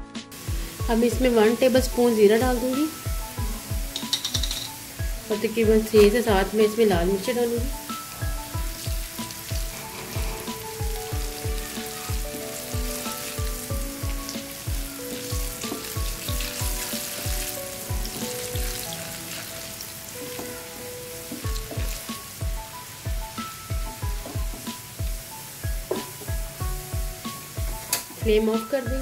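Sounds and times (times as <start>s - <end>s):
background music with steady beat: 0.0s - 29.0s
garlic and spices sizzling in oil: 0.3s - 29.0s.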